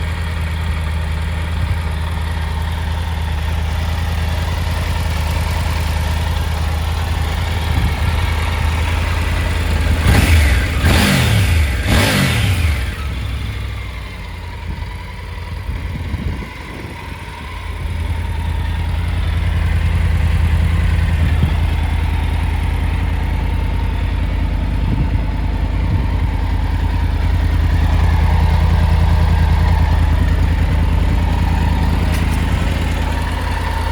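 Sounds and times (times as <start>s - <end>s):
motorcycle engine idling: 0.0s - 33.9s
engine throttle blips: 1.5s - 33.9s.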